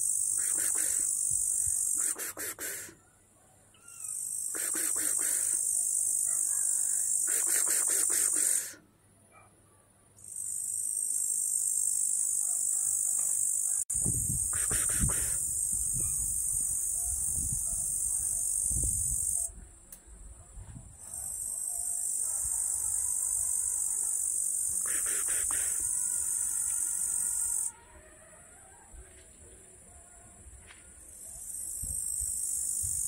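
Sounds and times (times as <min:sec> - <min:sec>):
insect high-pitched drone: 0:00.0 - 0:03.0, 0:04.0 - 0:08.8, 0:10.2 - 0:20.2, 0:21.0 - 0:33.0.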